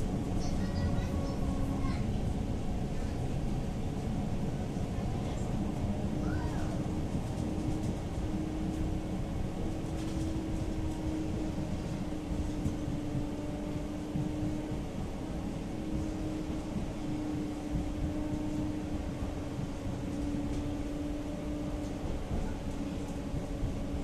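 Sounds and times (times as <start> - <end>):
traction drive hum: 0.0 - 24.0
tram wheels rumbling on rails: 0.0 - 24.0.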